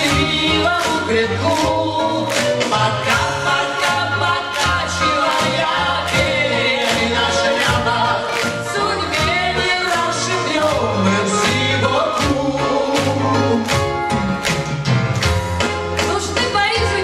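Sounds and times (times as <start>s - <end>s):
man and woman singing pop duet: 0.0s - 13.9s.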